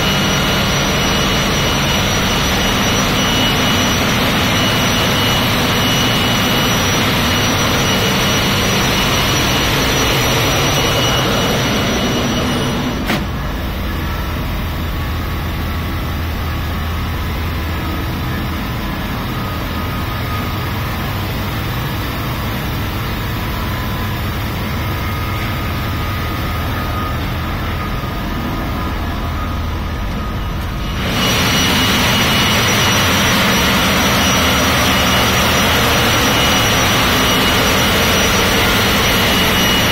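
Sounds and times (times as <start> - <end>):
engine room machinery hum: 0.0 - 39.9.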